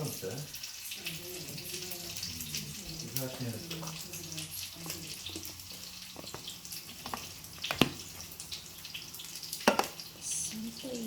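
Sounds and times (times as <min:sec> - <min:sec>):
steady kitchen hiss: 0:00.0 - 0:11.0.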